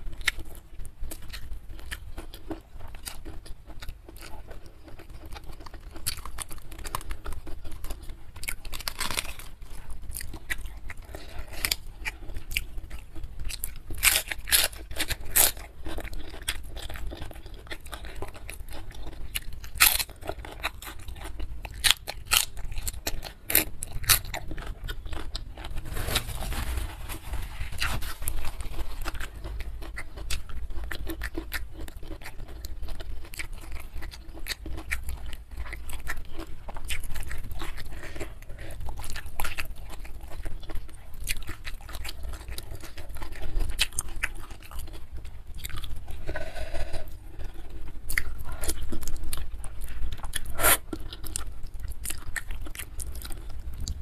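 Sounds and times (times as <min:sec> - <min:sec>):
crisp vegetable crunches: 0:00.0 - 0:54.0
person chewing: 0:00.0 - 0:54.0.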